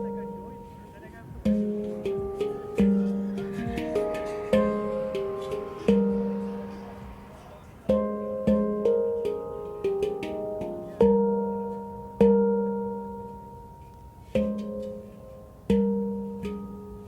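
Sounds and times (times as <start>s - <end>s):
handpan notes played by hand: 0.0s - 17.0s.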